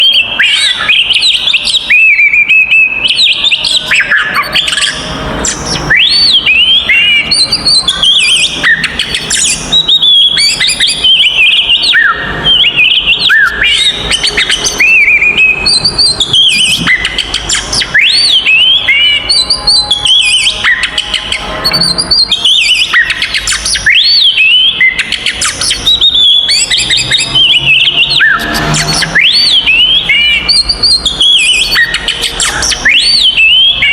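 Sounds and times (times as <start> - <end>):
songbird singing loudly: 0.0 - 33.9.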